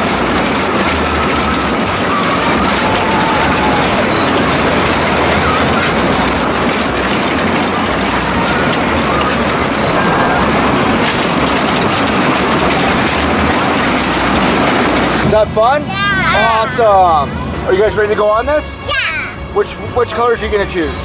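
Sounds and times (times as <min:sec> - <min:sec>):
carnival ride rumbling and clattering: 0:00.0 - 0:21.0.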